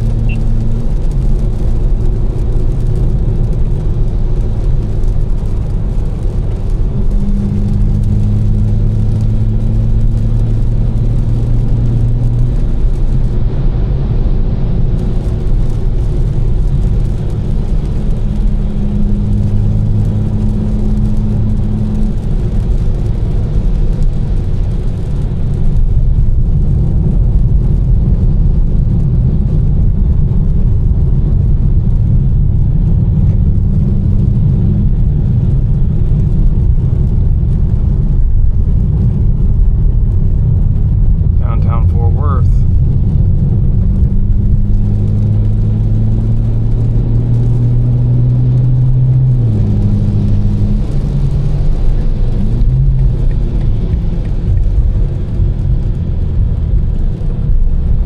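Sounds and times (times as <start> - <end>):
car engine low drone: 0.0 - 58.0
tyres hissing on wet road: 0.0 - 58.0.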